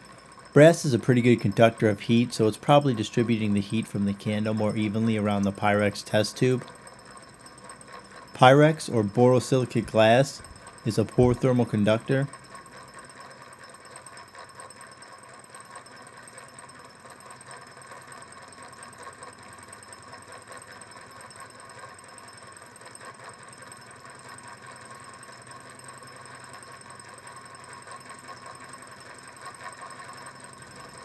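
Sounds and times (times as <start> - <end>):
small engine mechanical ticking: 0.0 - 31.0.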